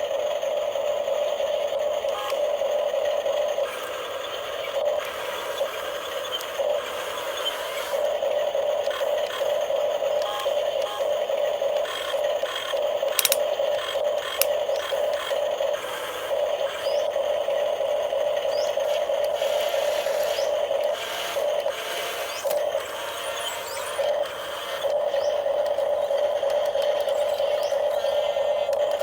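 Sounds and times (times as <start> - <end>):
electric motor whine and rattle: 0.0 - 29.0
sharp clicks: 1.8 - 29.0.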